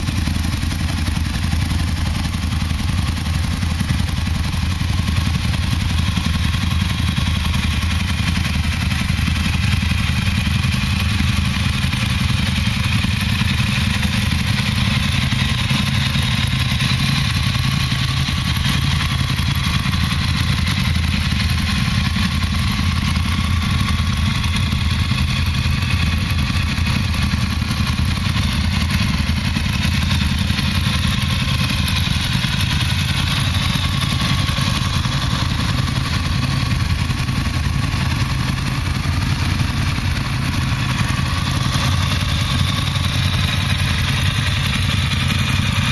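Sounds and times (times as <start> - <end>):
motorcycle engines idling: 0.0 - 45.9.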